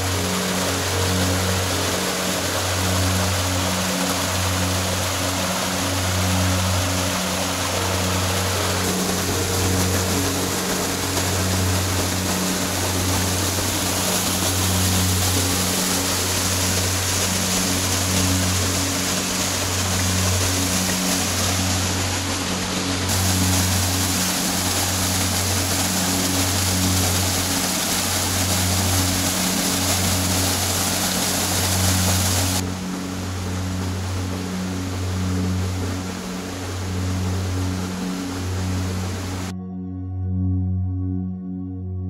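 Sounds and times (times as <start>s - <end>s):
waterfall rushing: 0.0s - 39.5s
pulsing synth music: 0.0s - 42.0s.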